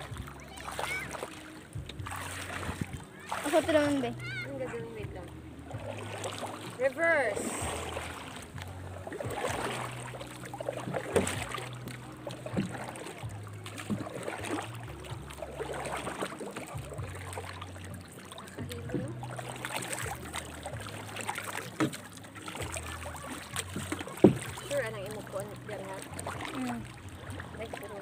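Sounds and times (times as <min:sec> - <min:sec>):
sea water splashing: 0:00.0 - 0:28.0.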